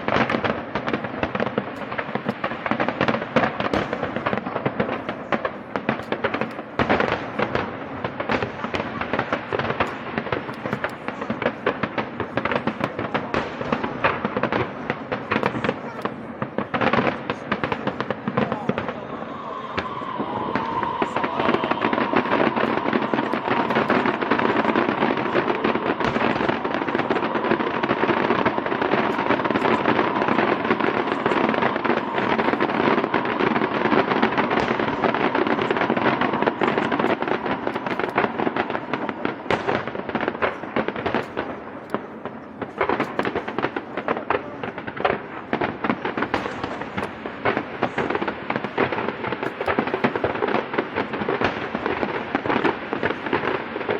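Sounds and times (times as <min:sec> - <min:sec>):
fireworks crackling and banging: 0:00.0 - 0:53.9.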